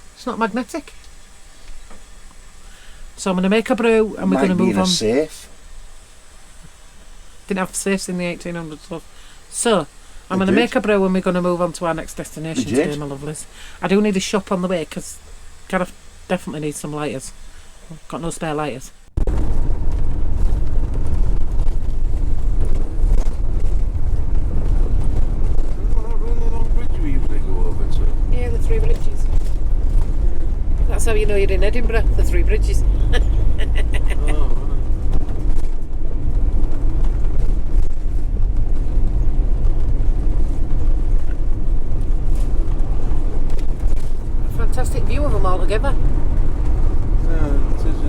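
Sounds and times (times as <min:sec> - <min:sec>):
vehicle engine and road rumble: 0:00.0 - 0:48.0.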